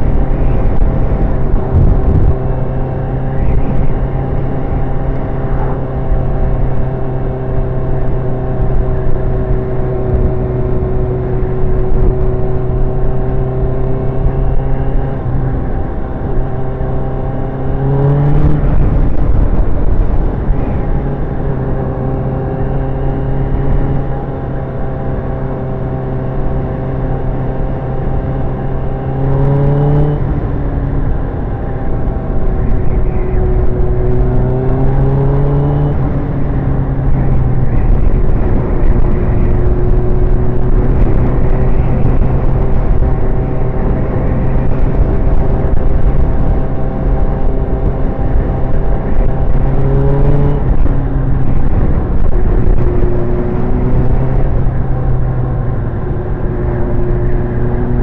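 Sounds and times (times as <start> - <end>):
motorcycle engine: 0.0 - 58.0
wind on microphone: 0.0 - 58.0.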